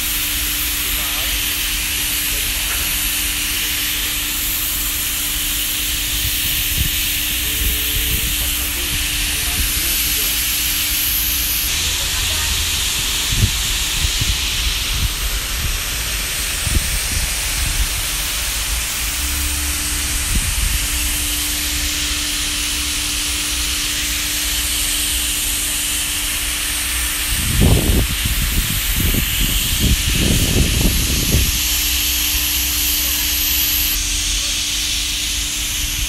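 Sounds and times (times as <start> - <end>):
high hiss: 0.0 - 36.0
low machine hum: 0.0 - 36.0.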